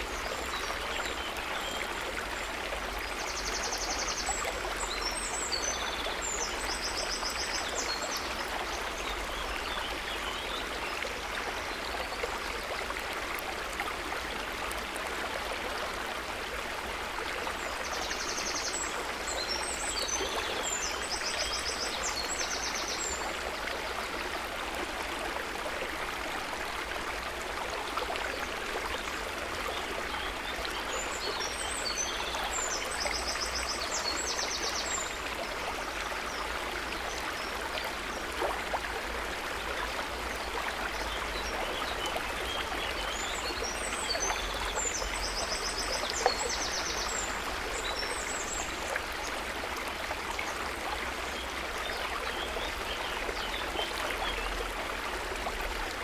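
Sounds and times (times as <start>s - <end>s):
river water running: 0.0s - 56.0s.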